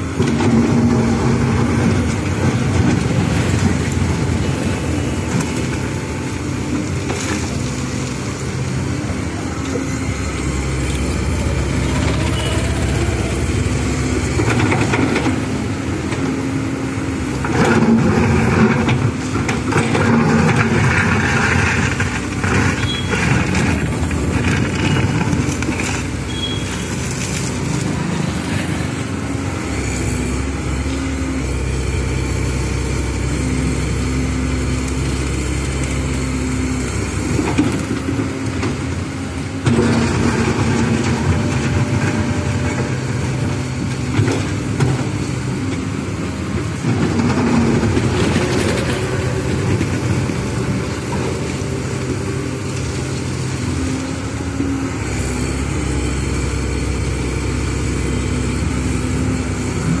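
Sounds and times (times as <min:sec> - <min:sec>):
excavator diesel engine running: 0:00.0 - 1:00.0.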